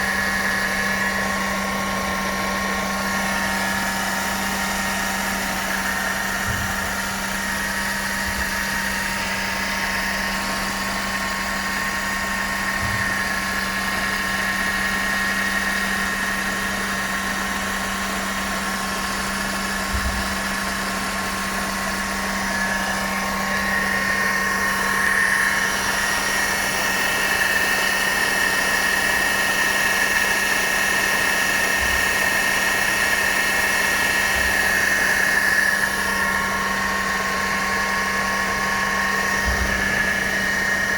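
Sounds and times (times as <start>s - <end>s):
car engine idling: 0.0s - 40.9s
supercharger whine: 0.0s - 40.9s.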